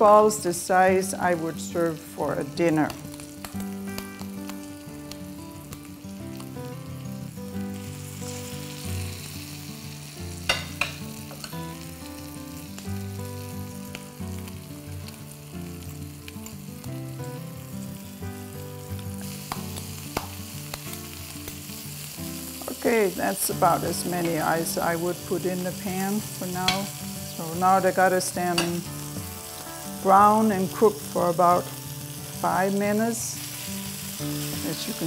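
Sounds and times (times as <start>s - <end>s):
meatballs sizzling in a skillet: 0.0s - 35.0s.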